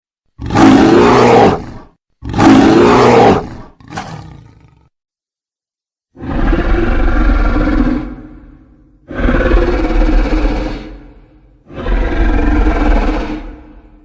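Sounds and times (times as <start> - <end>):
creature roars: 0.4 - 4.9, 6.2 - 14.0.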